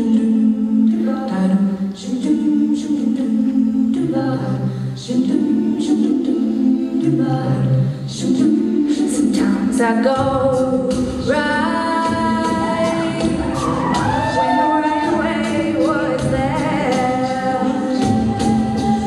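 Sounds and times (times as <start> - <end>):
women singing in harmony: 0.0 - 19.0.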